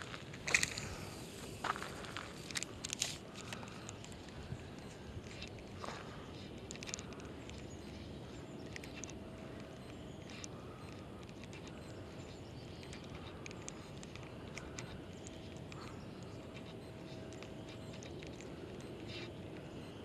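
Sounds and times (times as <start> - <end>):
faint wind noise: 0.0 - 20.0.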